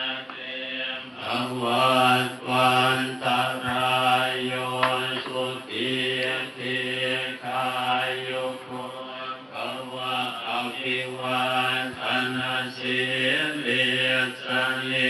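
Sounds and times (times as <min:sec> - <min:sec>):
monks chanting in unison: 0:00.0 - 0:15.0.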